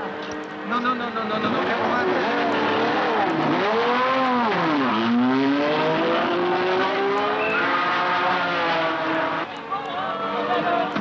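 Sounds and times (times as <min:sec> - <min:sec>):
racing car engine accelerating: 0:00.0 - 0:09.5.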